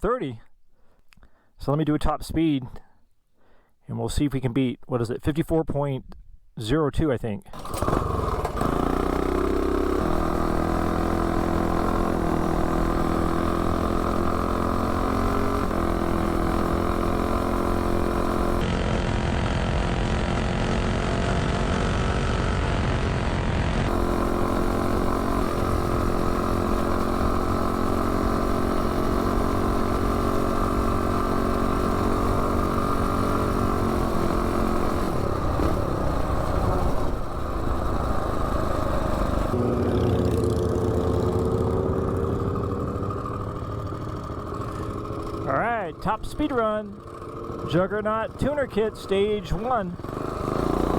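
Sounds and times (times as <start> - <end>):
small engine running at low revs: 7.5 - 50.9.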